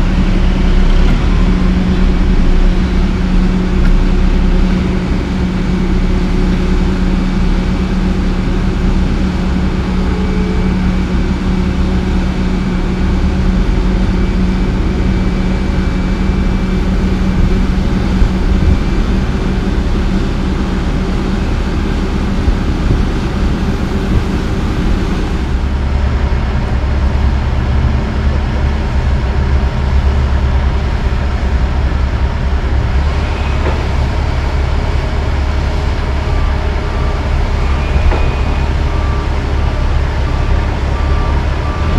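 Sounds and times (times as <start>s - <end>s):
heavy diesel engines running: 0.0s - 41.9s
truck engine low rumble: 0.0s - 41.9s.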